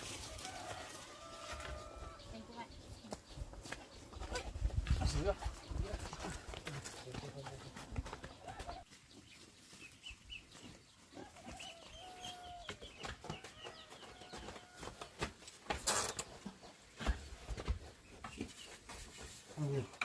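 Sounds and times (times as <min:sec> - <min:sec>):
chickens clucking: 0:00.1 - 0:15.4, 0:16.0 - 0:20.0.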